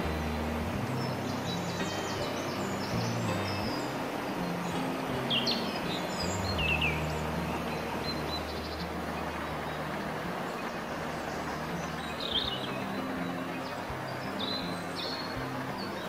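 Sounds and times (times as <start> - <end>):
low steady drone: 0.0 - 16.0
river water running over stones: 0.0 - 16.0.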